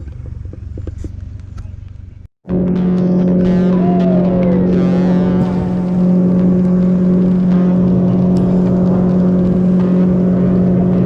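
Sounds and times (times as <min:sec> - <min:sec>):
boat engine droning: 0:02.0 - 0:11.0.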